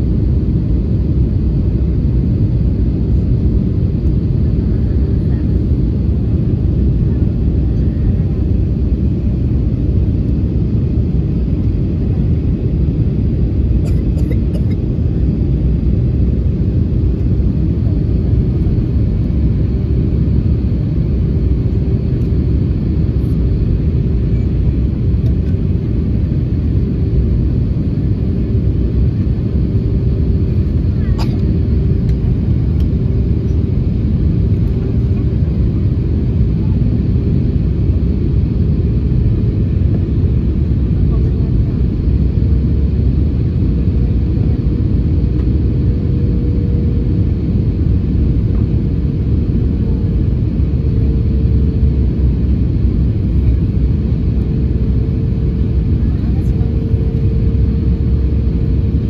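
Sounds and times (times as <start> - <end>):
airliner cabin engine rumble: 0.0 - 59.0
steady hum: 0.0 - 59.0.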